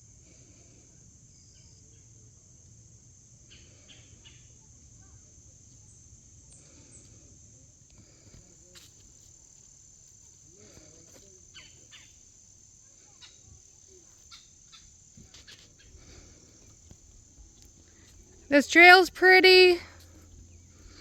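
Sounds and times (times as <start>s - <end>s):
high-pitched insect chorus: 0.0s - 19.2s, 19.8s - 21.0s.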